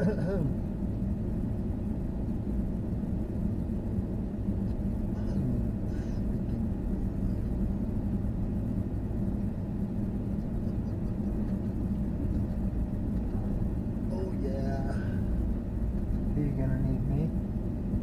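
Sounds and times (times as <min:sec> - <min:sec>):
van engine running: 0:00.0 - 0:18.0.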